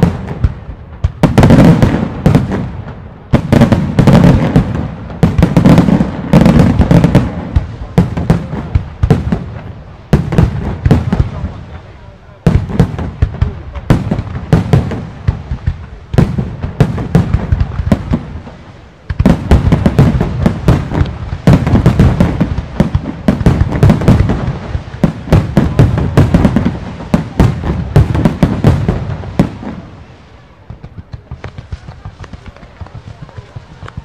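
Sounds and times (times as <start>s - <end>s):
fireworks bursts and bangs: 0.0s - 34.0s.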